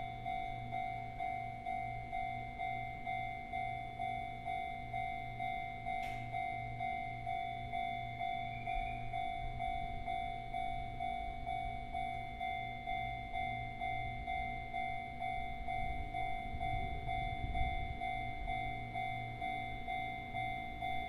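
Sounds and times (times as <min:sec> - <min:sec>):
electronic warning bell: 0:00.0 - 0:21.0
low steady hum: 0:00.0 - 0:21.0.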